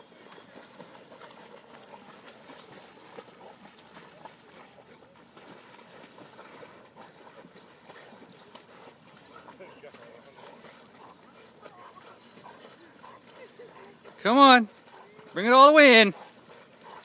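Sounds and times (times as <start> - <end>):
lake water lapping: 0.0 - 17.0.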